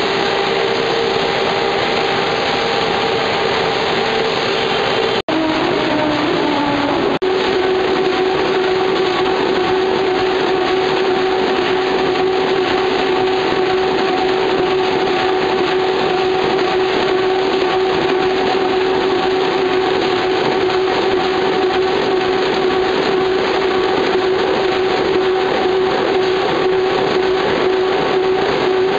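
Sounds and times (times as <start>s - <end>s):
production line machine din: 0.0s - 28.9s.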